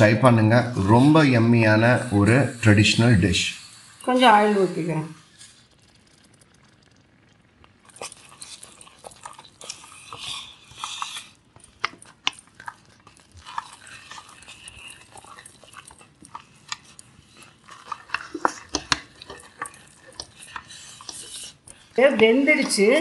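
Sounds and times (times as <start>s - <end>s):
wet squelching of stirred food: 0.0s - 23.0s.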